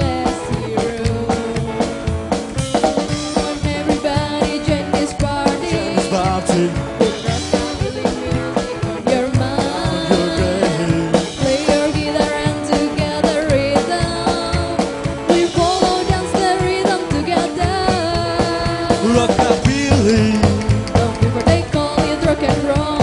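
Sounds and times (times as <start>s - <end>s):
woman singing: 0.0s - 2.1s, 3.2s - 19.4s, 20.8s - 23.0s
rockabilly band playing: 0.0s - 23.0s.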